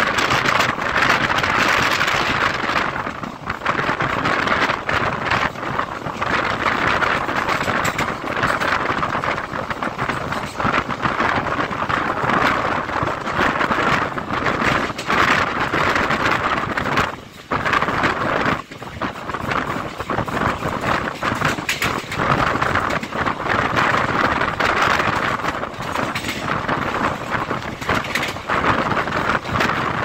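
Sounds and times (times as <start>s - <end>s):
train clatter: 0.0s - 30.0s
train wheel and rail rumble: 0.0s - 30.0s
wind buffeting microphone: 0.0s - 30.0s.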